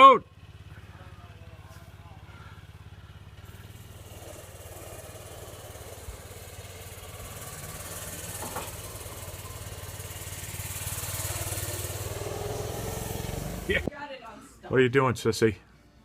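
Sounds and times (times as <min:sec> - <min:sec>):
snowmobile engine running: 0:00.3 - 0:13.9.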